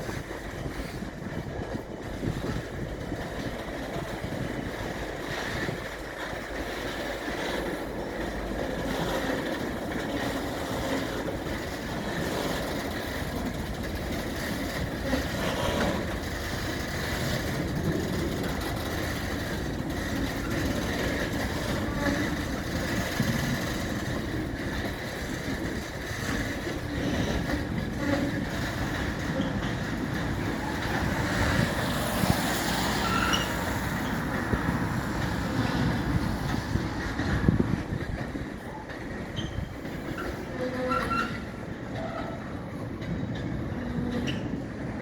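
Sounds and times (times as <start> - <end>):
diesel locomotive engine: 0.0 - 45.0
train rolling on rails: 0.0 - 45.0.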